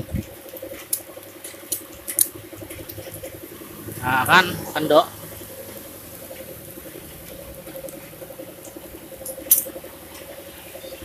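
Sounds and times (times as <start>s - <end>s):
heavy rain pattering: 0.1s - 11.0s.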